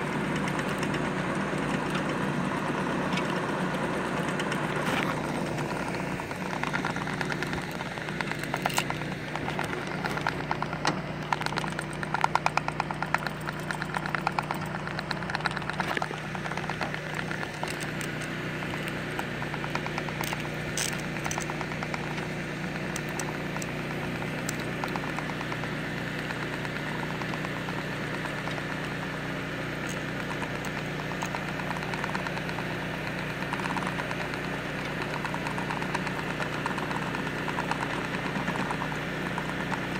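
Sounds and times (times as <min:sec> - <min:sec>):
lift engine running: 0:00.0 - 0:39.9
rapid rattling: 0:00.0 - 0:39.9.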